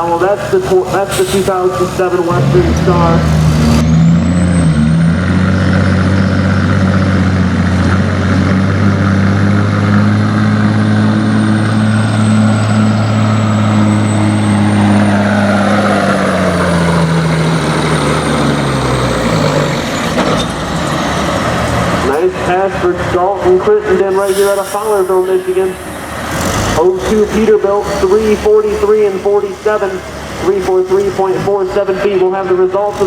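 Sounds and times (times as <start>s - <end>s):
diesel truck engine at full throttle: 0.0s - 33.0s.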